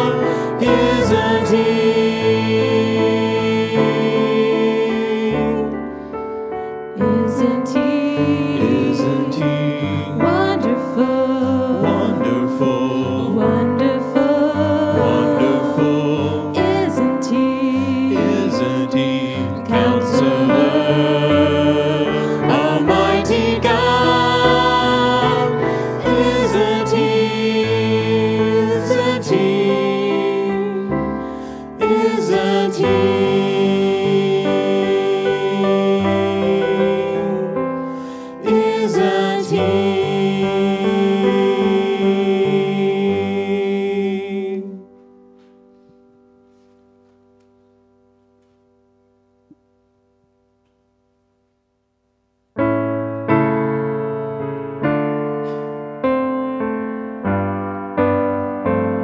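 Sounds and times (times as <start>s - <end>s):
congregation singing: 0.0s - 47.6s.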